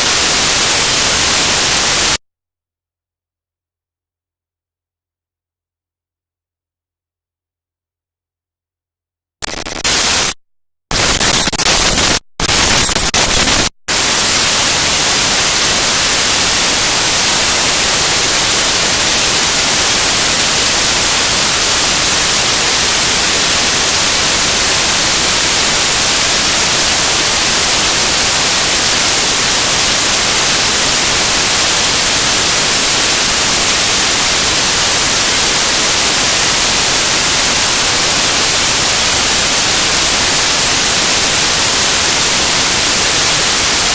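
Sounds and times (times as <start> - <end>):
harsh static hiss: 0.0 - 2.2, 9.4 - 43.9.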